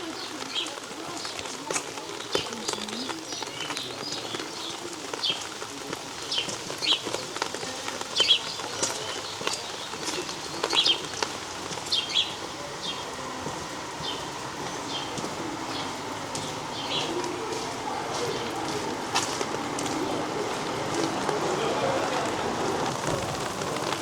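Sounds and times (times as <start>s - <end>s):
small birds chirping: 0.0s - 24.0s
steady rain falling: 0.0s - 24.0s.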